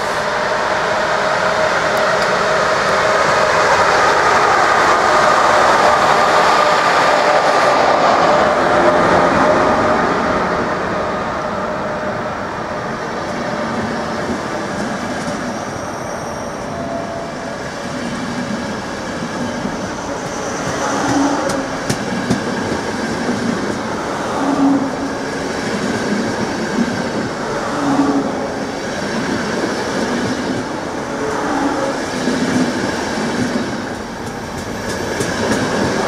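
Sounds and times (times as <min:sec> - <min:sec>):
train wheels whining on rails: 0:00.0 - 0:36.0.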